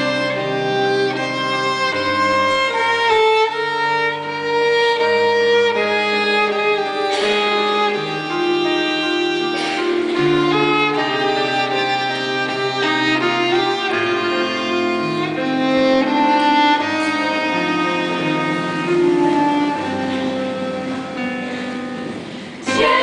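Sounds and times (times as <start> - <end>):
electronic keyboard accompaniment: 0.0 - 23.0
violin slow melody: 0.0 - 23.0.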